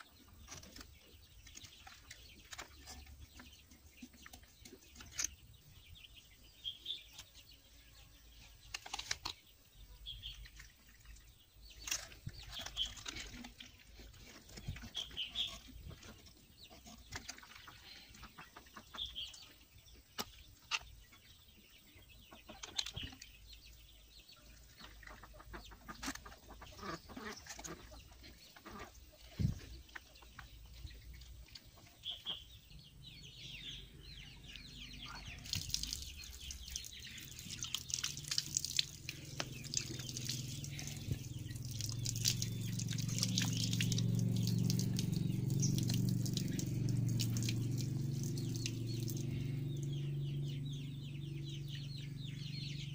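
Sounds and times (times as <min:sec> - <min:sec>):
bird chirps: 0:00.0 - 0:52.9.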